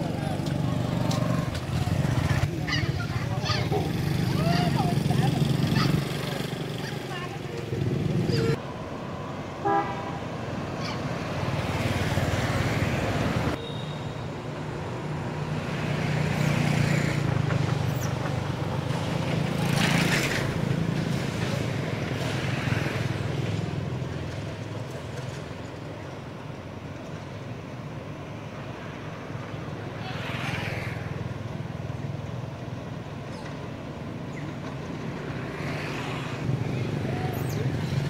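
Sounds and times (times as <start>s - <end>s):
cars passing: 0.0s - 38.0s.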